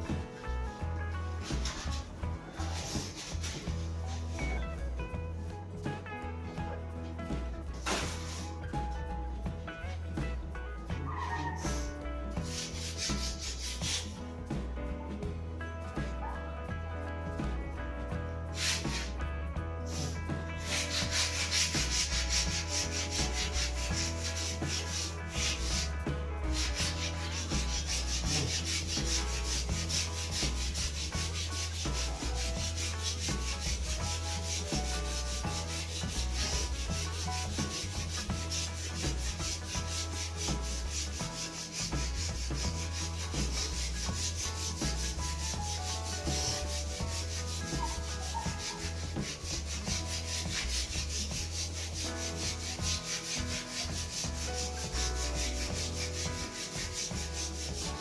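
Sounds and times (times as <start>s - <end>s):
sandpaper rubbing wood: 0.0s - 4.6s, 7.8s - 8.9s, 11.2s - 14.2s, 18.5s - 19.2s, 19.9s - 58.0s.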